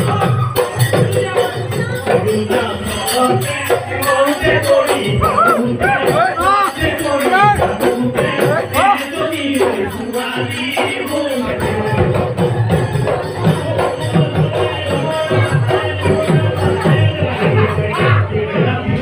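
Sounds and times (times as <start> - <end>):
deep drum beats: 0.0 - 19.0
folk music with jingling rhythm: 0.0 - 19.0.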